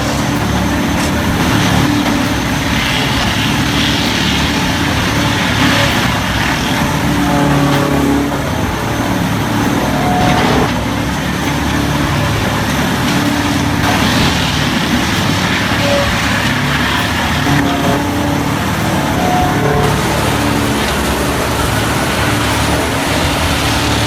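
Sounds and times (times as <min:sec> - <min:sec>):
dense mechanical noise: 0:00.0 - 0:24.0
large engine droning: 0:00.0 - 0:24.0.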